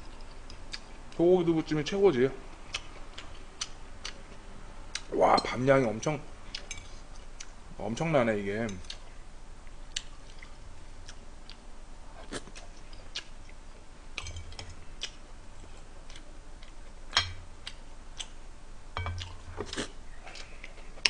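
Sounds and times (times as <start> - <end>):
soft chewing: 0.0 - 1.2, 2.4 - 5.6, 6.4 - 7.6, 8.7 - 18.4, 19.0 - 21.0.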